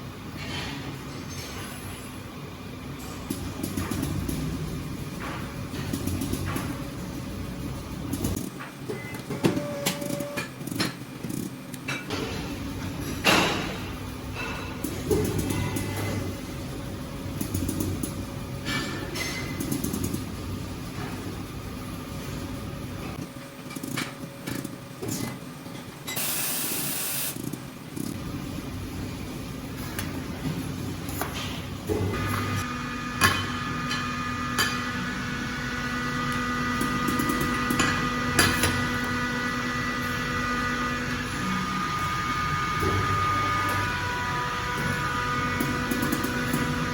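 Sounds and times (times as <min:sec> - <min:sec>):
electrical hum of machinery: 0:00.0 - 0:46.9.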